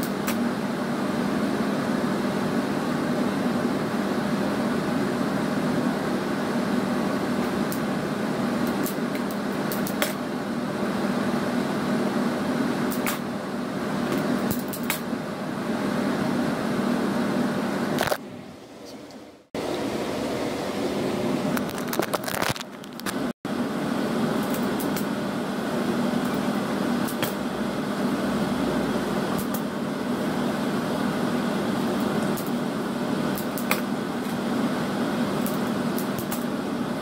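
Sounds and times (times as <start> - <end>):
appliance machine hum: 0.0 - 37.0.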